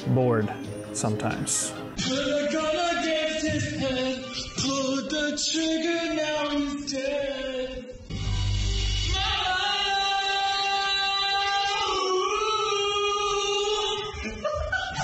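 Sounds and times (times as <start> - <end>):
music with singing: 0.0 - 15.0.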